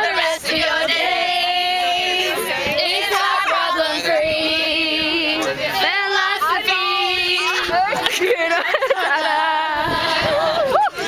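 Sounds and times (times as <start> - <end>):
group singing unaccompanied: 0.0 - 11.0.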